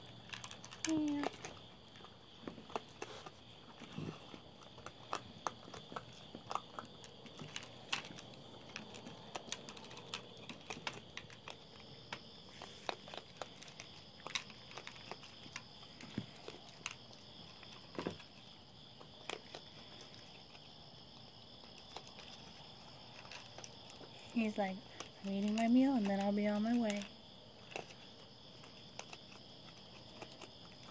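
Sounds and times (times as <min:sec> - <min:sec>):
animal crunching dry food: 0:00.0 - 0:30.9.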